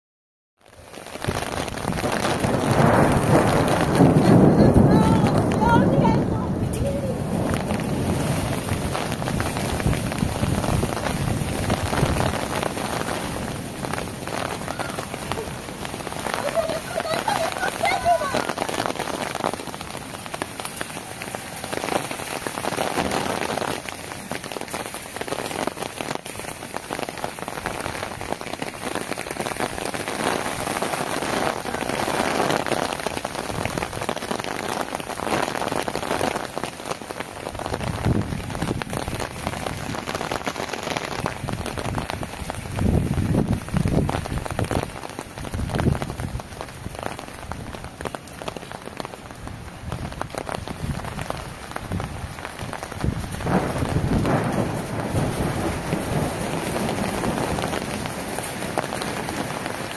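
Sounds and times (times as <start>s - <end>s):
rain falling on wet ground: 0.6s - 59.9s.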